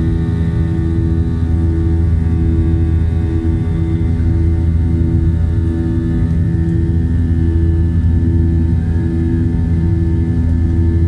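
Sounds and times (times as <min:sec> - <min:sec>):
airliner engines droning: 0:00.0 - 0:11.0
steady higher engine tones: 0:00.0 - 0:11.0.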